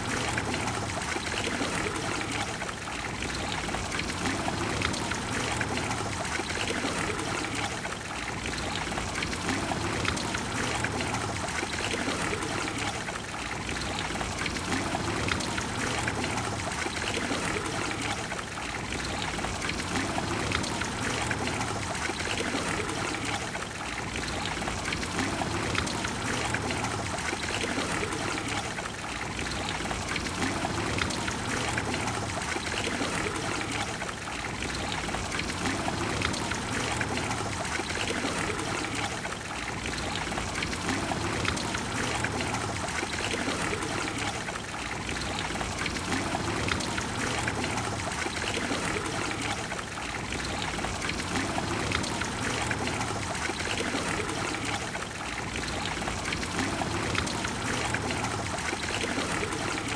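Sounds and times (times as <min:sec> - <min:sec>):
fountain water splashing into basin: 0:00.0 - 0:59.9.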